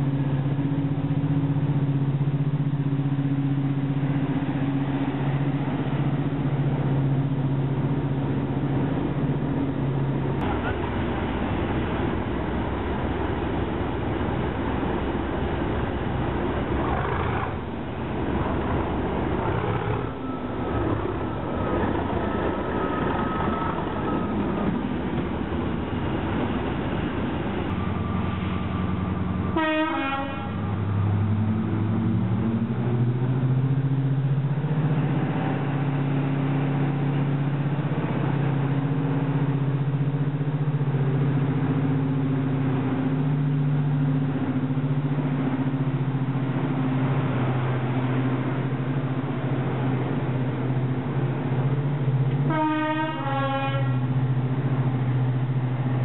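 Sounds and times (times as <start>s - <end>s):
deep steady locomotive engine: 0.0s - 56.0s
diesel locomotive engine pulling away: 0.0s - 56.0s.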